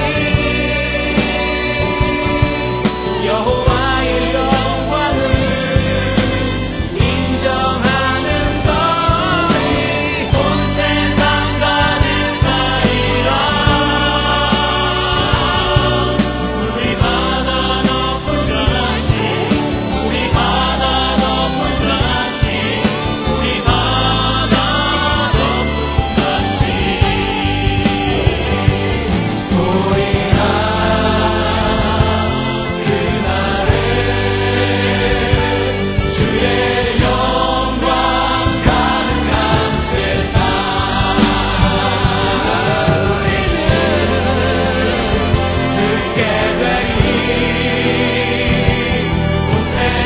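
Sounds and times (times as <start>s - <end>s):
band accompaniment with steady beat: 0.0s - 50.0s
bass notes: 0.0s - 50.0s
group of voices singing: 0.0s - 50.0s.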